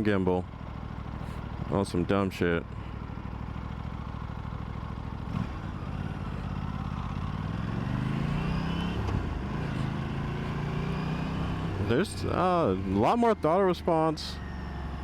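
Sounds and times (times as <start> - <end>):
motorcycle engine accelerating: 2.8 - 15.0.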